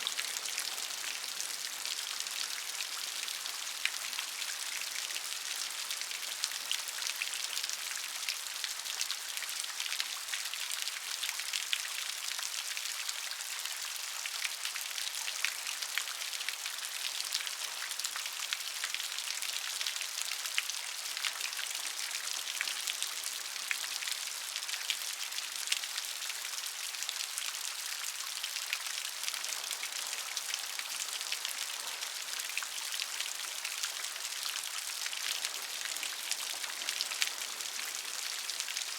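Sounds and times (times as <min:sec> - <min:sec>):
rain drops ticking on a surface: 0:00.0 - 0:38.9.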